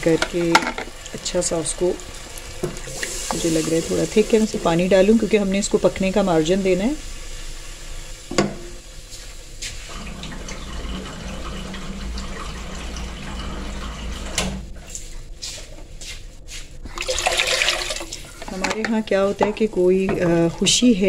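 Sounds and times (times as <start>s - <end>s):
water running: 0.0s - 15.9s, 16.8s - 21.0s.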